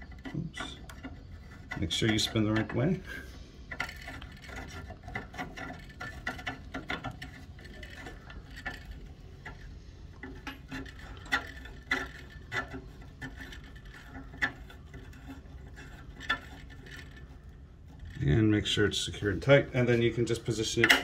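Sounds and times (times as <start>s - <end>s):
metal gooseneck clicking and creaking: 0.0s - 21.0s.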